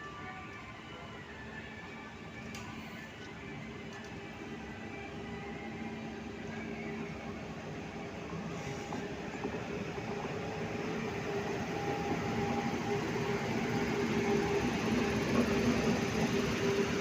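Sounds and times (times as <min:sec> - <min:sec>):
passenger train humming: 0:00.0 - 0:17.0.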